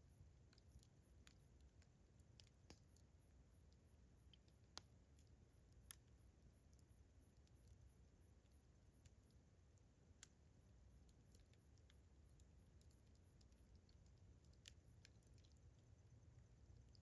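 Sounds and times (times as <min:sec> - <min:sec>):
crickets chirping: 0:00.0 - 0:17.0
campfire crackling and popping: 0:00.2 - 0:17.0.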